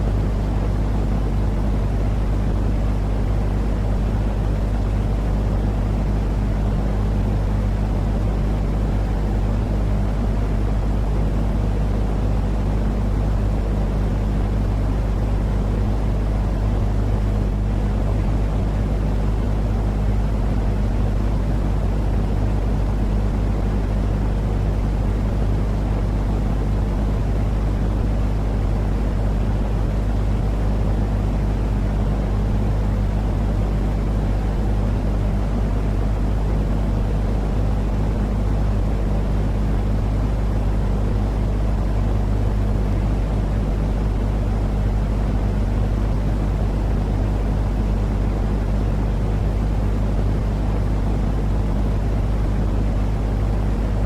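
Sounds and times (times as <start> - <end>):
constant low hum: 0.0 - 54.0.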